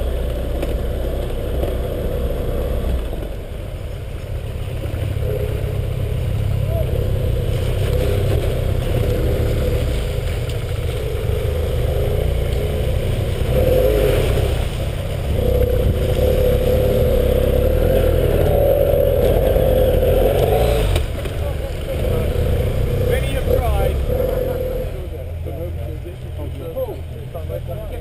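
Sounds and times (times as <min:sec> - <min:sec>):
wind rumble: 0:00.0 - 0:24.2
motorcycle engine revving: 0:00.0 - 0:28.0.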